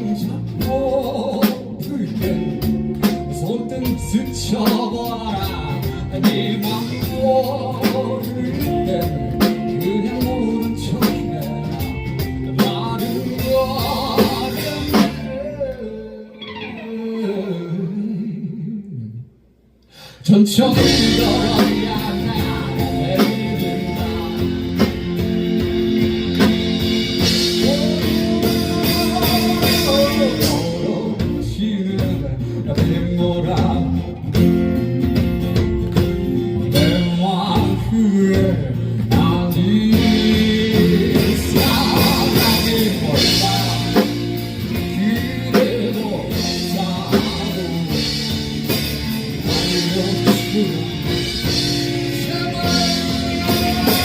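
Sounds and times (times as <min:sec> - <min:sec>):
drum kit: 0:00.0 - 0:15.8, 0:19.9 - 0:54.0
live band playing: 0:00.0 - 0:18.0, 0:20.0 - 0:54.0
guitar: 0:00.0 - 0:19.2, 0:19.8 - 0:54.0.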